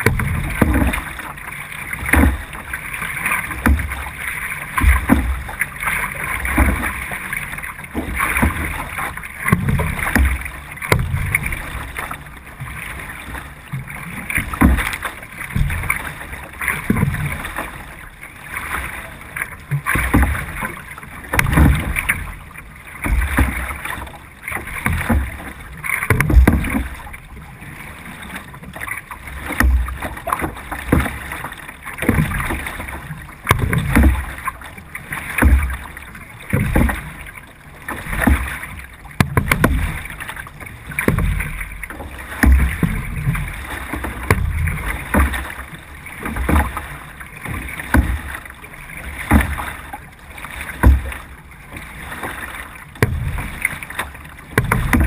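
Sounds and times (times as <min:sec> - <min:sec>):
paddle strokes splashing water: 0:00.0 - 0:55.0.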